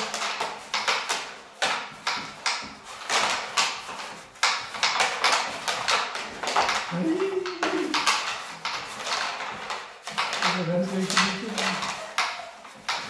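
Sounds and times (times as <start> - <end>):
wooden discs clacking: 0.0 - 13.0.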